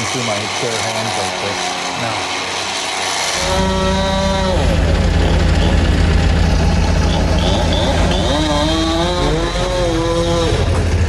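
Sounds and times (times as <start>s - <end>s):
second motor rising and falling: 0.0s - 11.0s
engine idling: 2.0s - 11.0s.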